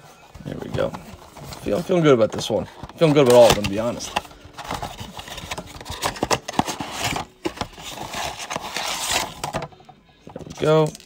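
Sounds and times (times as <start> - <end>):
cardboard scraping and rustling: 0.0 - 9.7.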